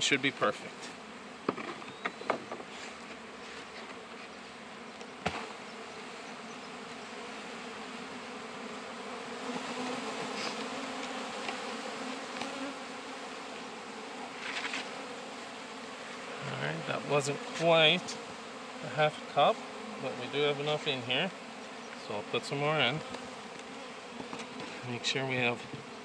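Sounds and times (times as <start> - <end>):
honeybees buzzing: 0.1 - 26.0.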